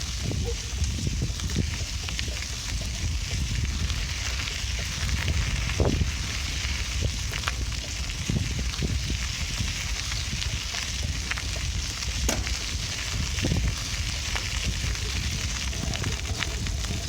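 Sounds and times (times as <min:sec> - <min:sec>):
bicycle tyres rolling: 0:00.0 - 0:17.0
wind: 0:00.0 - 0:17.0.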